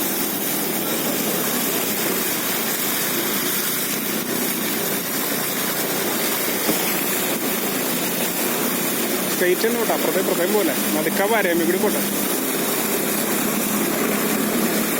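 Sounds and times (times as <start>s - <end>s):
vehicle engine running: 0.0s - 14.9s
water rushing around wheels: 0.0s - 14.9s.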